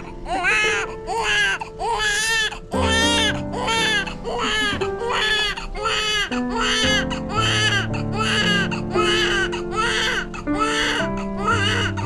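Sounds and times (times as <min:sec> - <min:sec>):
background music with held notes: 0:00.0 - 0:12.0
newborn baby crying: 0:00.0 - 0:12.0.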